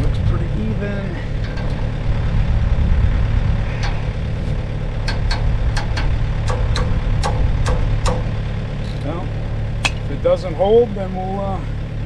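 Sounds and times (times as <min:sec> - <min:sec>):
mini excavator engine idling: 0:00.0 - 0:12.0.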